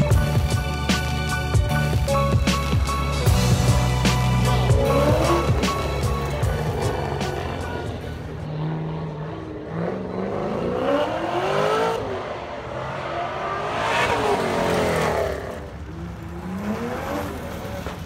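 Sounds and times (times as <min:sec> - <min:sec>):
sports car engines accelerating: 0:00.2 - 0:18.0.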